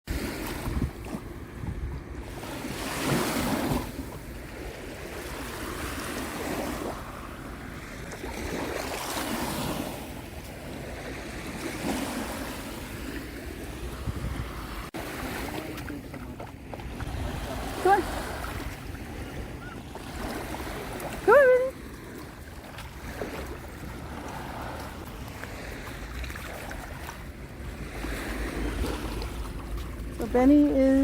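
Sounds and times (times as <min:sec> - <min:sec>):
wind rumbling on microphone: 0:00.1 - 0:15.1, 0:16.5 - 0:31.0
waves washing onto beach: 0:00.1 - 0:31.0.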